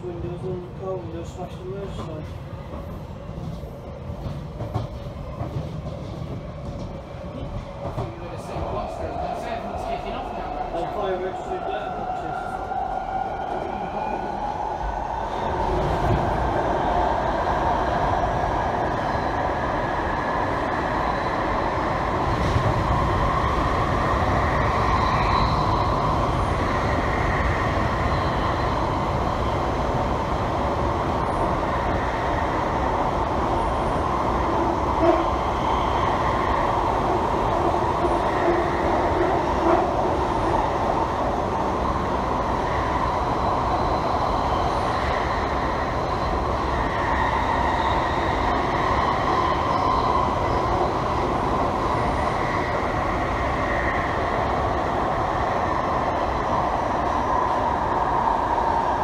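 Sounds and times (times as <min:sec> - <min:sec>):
train rumbling through tunnel: 0:00.0 - 0:59.0.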